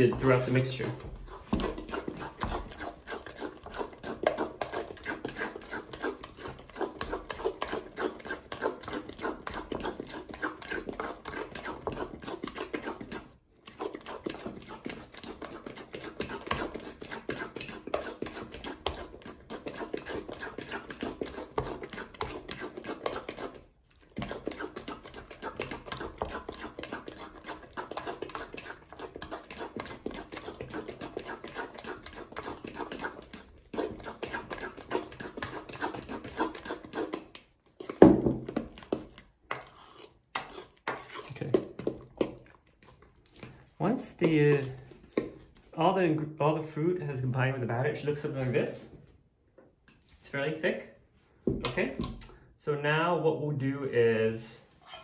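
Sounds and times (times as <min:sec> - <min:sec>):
utensil stirring batter in metal bowl: 0:00.0 - 0:49.0, 0:49.8 - 0:50.4, 0:54.7 - 0:55.0.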